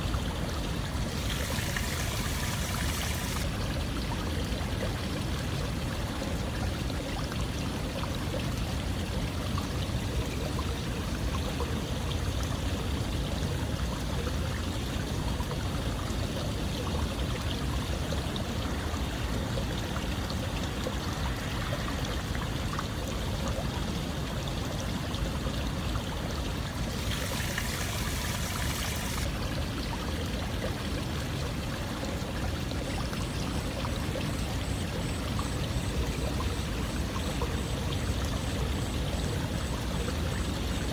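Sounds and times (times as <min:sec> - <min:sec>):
running water rushing: 0:00.0 - 0:10.2, 0:17.5 - 0:40.4.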